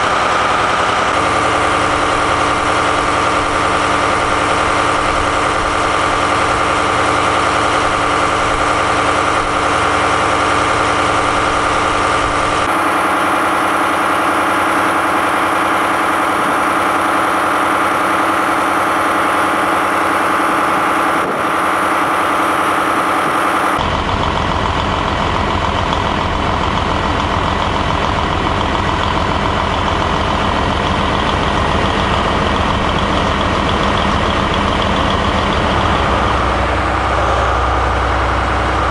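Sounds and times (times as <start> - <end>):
diesel engines idling: 0.0 - 38.9.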